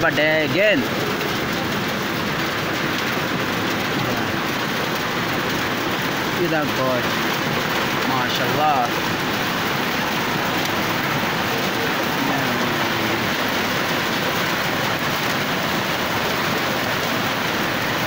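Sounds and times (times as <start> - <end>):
rain falling on puddles: 0.0 - 18.0.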